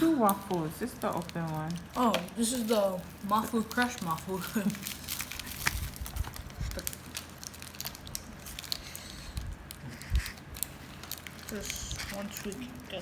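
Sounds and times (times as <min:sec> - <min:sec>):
plastic wrapper rustling: 0:00.0 - 0:13.0.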